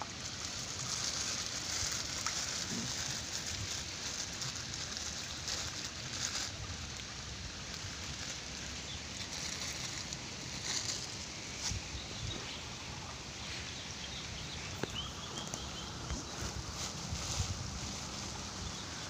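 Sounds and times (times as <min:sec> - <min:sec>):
stream water splashing: 0:00.0 - 0:19.0.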